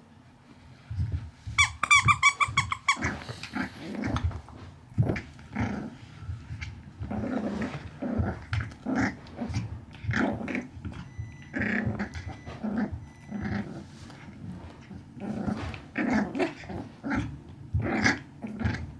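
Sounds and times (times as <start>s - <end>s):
small dog growling: 3.0s - 18.9s.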